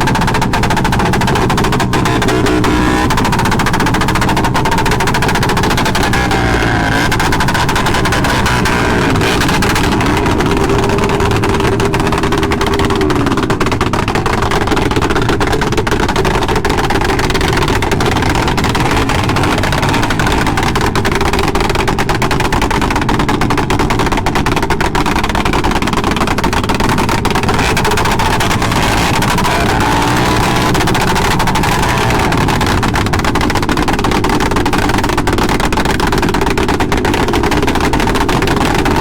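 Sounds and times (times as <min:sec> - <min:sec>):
motorcycle engines running: 0:00.0 - 0:39.0.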